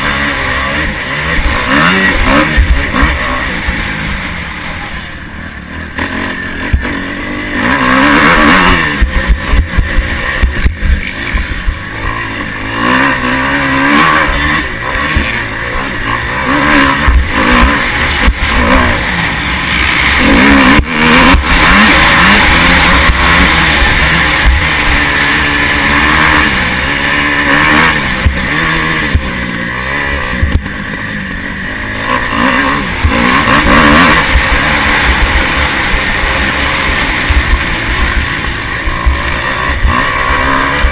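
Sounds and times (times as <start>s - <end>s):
motocross bike engine revving: 0.0s - 40.9s
rushing noise: 0.0s - 40.9s.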